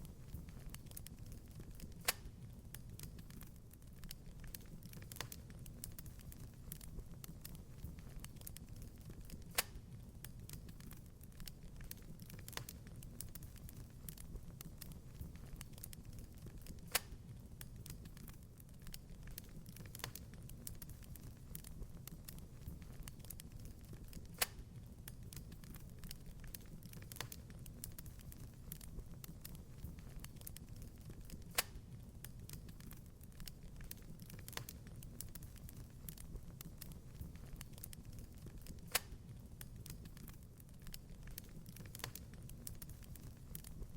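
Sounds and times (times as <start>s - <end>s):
fire crackling in fireplace: 0.0s - 43.9s.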